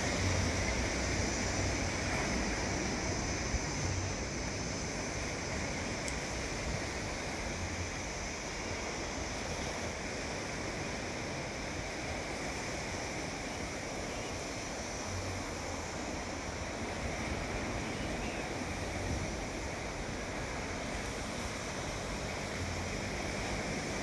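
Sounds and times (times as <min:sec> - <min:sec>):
sea surf washing on shore: 0:00.0 - 0:24.0
wind rumbling on microphone: 0:00.0 - 0:24.0.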